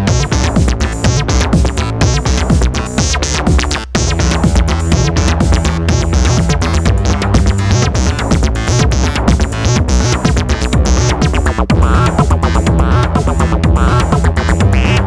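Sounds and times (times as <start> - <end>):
acid synthesizer sequence: 0.0 - 15.0
steady synth bass: 0.0 - 15.0
swooping filter sweeps: 0.0 - 15.0
ticking drum machine percussion: 0.0 - 15.0.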